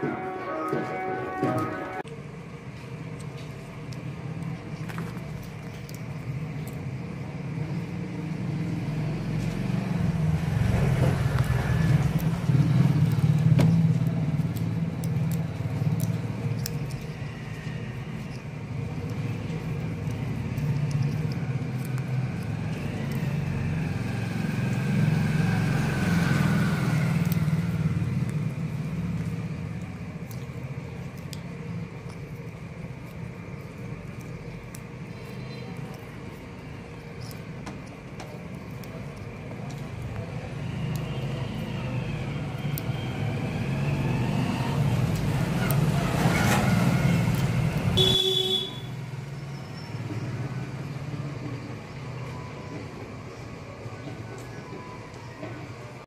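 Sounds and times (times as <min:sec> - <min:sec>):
vehicle engine rumble: 0:02.0 - 0:56.0.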